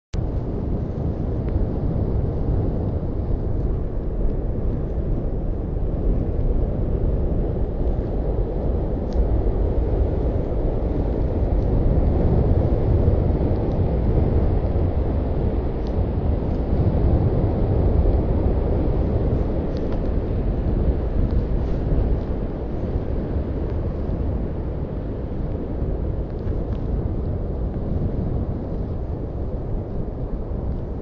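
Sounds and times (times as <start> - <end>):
wind buffeting microphone: 0.1 - 31.0.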